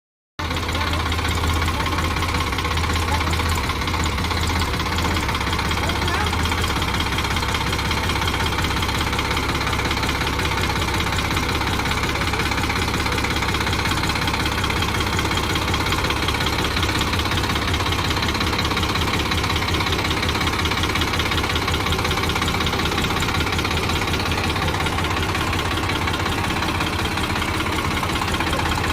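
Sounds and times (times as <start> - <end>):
tractor engine chugging: 0.4 - 28.9.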